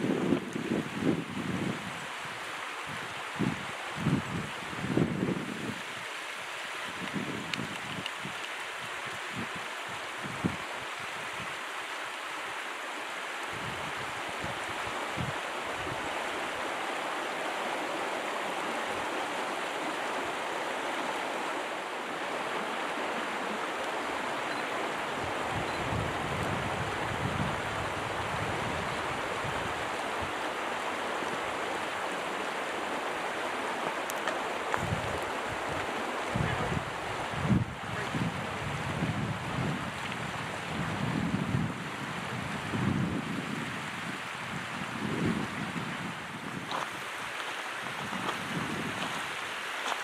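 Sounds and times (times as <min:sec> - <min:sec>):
small stream running: 0:00.0 - 0:50.0.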